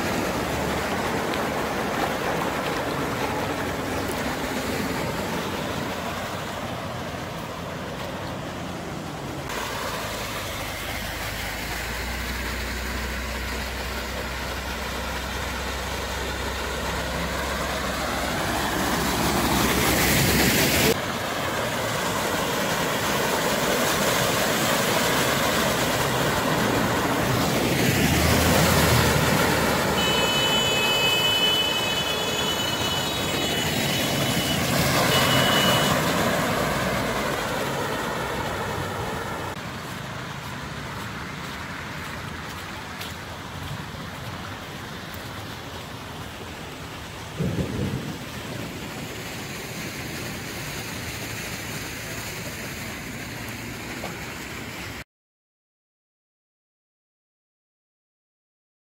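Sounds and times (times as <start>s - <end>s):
vehicle engines running: 0.0s - 54.9s
tyres churning through water: 0.0s - 55.0s.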